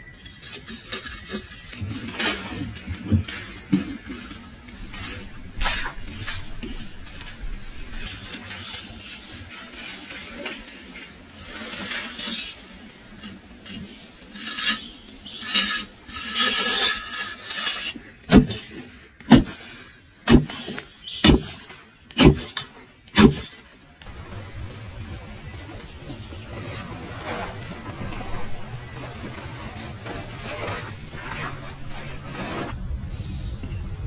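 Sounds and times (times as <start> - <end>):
hand tools scraping wood: 0.0 - 32.8.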